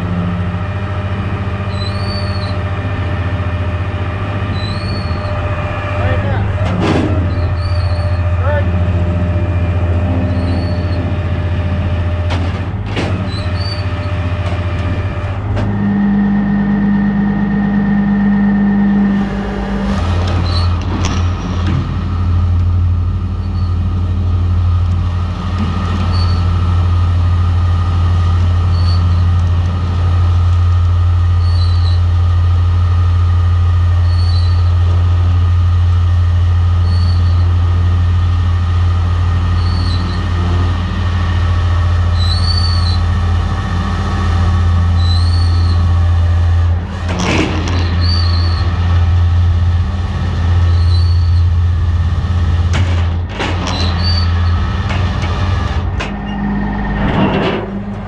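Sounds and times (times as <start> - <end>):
heavy truck engine running: 0.0 - 58.0.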